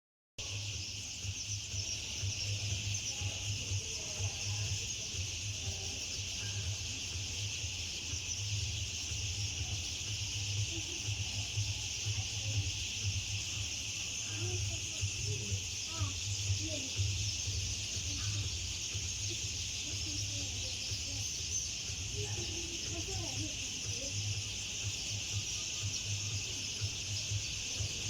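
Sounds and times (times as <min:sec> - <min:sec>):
chorus of birds chattering: 0:00.4 - 0:28.0.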